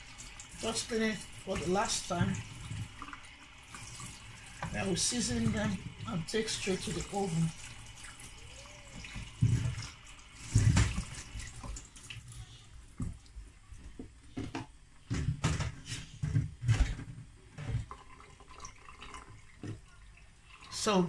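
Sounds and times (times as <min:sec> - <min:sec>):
water splashing in a sink: 0:00.0 - 0:21.0.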